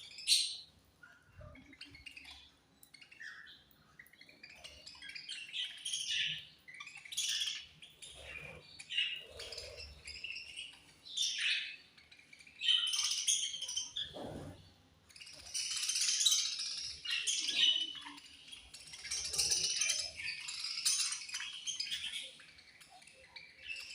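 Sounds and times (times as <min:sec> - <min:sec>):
budgerigars chirping: 0:00.0 - 0:23.9.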